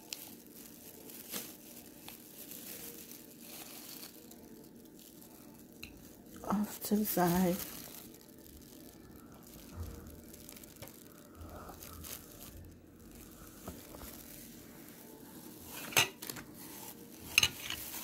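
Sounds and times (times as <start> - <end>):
food packages rustling: 0.0 - 18.0.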